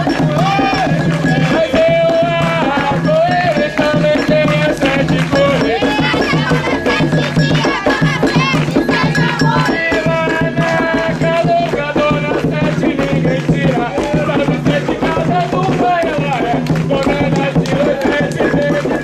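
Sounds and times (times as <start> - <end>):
steady percussion: 0.0 - 19.0
voices chanting: 0.0 - 19.0.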